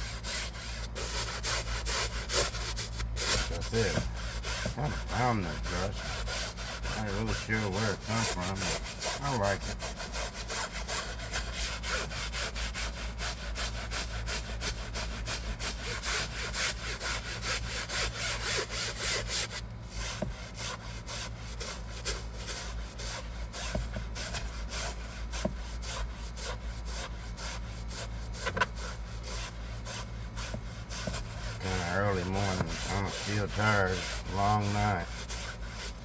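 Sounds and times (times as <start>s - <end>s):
brush scrubbing fabric seat: 0.0s - 36.0s.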